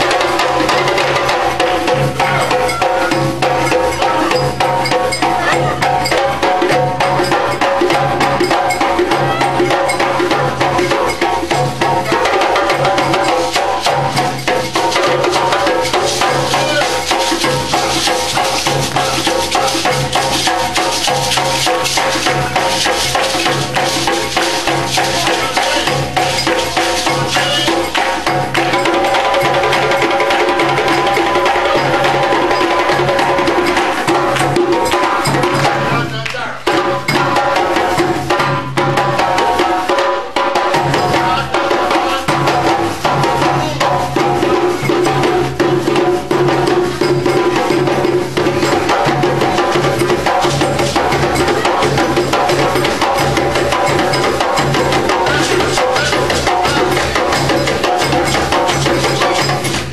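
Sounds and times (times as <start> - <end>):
drums beating: 0.0 - 59.9.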